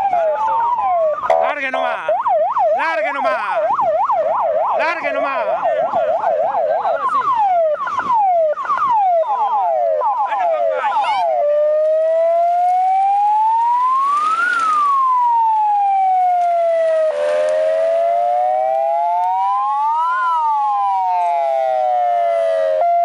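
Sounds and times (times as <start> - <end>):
electronic siren wailing: 0.0 - 23.0.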